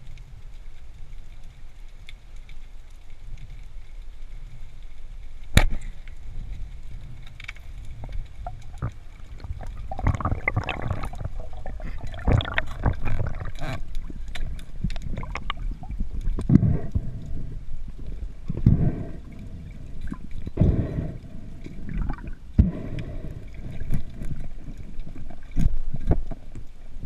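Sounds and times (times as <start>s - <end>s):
underwater bubbling: 0.0s - 27.0s.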